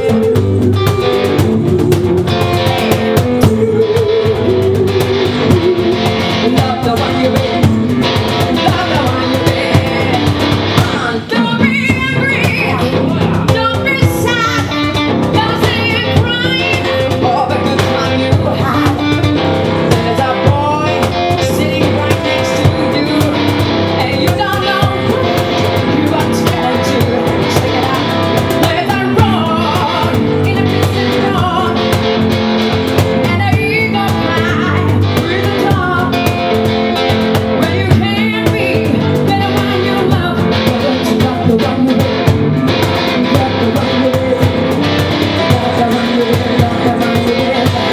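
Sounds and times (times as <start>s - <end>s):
cajon beat: 0.0s - 47.9s
strummed guitar: 0.0s - 47.9s
woman singing into microphone: 0.0s - 47.9s.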